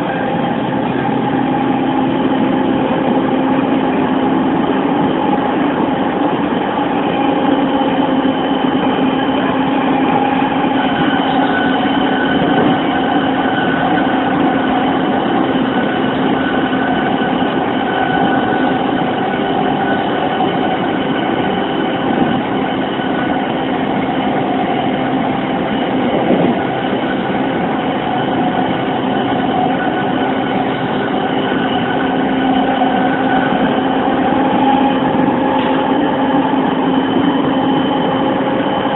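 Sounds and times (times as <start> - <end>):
train wheels rumbling on rail: 0.0 - 38.9
whining tones from traction motors: 0.0 - 38.9.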